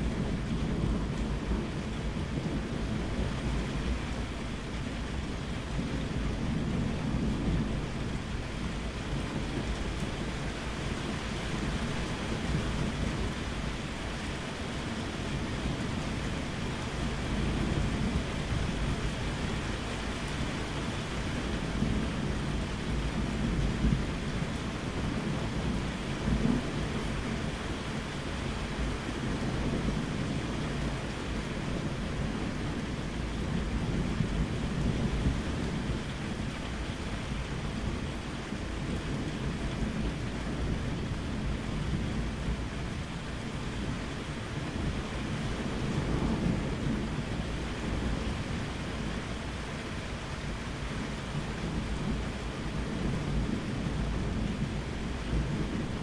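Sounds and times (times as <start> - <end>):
rolling thunder rumble: 0.0 - 56.0
steady rain falling: 0.0 - 56.0.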